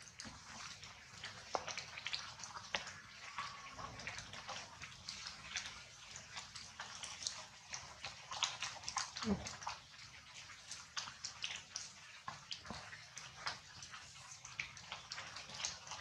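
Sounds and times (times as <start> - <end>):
water dripping: 0.0 - 16.0.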